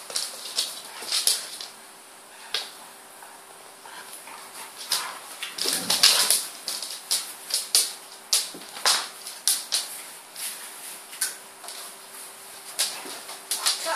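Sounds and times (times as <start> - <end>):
dogs scuffling: 0.0 - 13.9.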